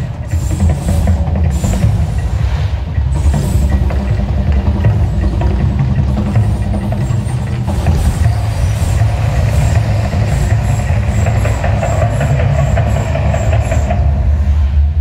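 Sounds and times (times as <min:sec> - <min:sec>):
deep continuous rumble: 0:00.0 - 0:15.0
gas flame bursts: 0:00.0 - 0:15.0.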